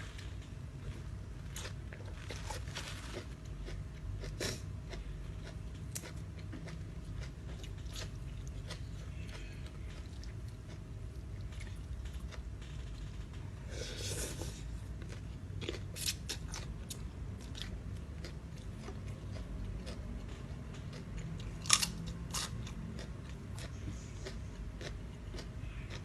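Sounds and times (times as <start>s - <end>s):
person chewing crunchy food: 0.8s - 13.0s, 13.6s - 26.0s.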